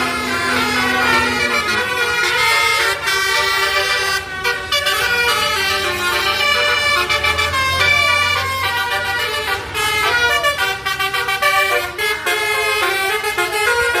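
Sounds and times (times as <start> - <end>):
multi-tone bus horn melody: 0.0 - 14.0.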